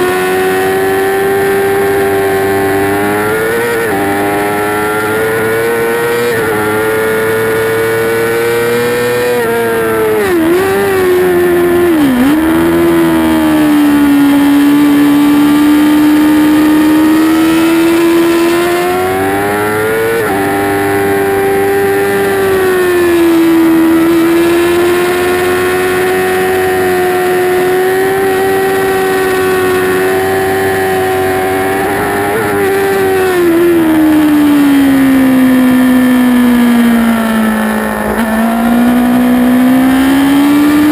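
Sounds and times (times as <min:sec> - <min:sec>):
motorcycle engine revving high: 0:00.0 - 0:40.9.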